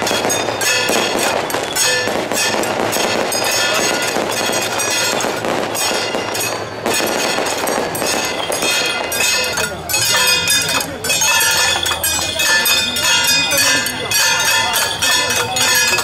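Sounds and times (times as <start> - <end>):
firecrackers cracking rapidly: 0.0 - 16.0
ringing metal percussion: 0.0 - 16.0.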